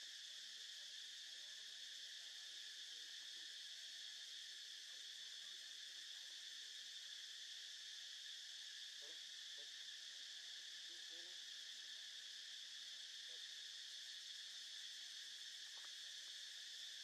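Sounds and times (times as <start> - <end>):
insects chirring in trees: 0.0 - 17.0.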